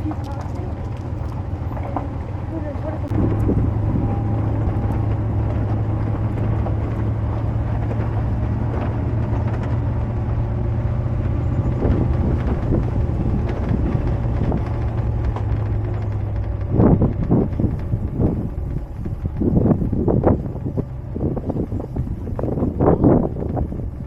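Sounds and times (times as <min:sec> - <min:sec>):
bumps on dirt road: 0:00.0 - 0:24.0
vehicle engine drone: 0:00.0 - 0:24.0.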